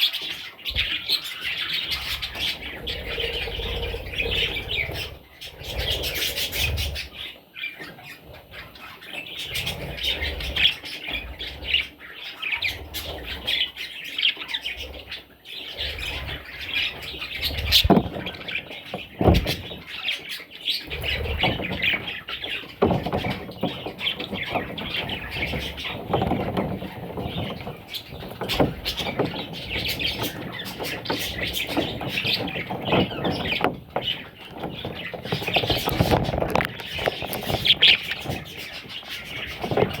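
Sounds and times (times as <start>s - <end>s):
parrot chicks chirping and squawking: 0.0s - 40.0s.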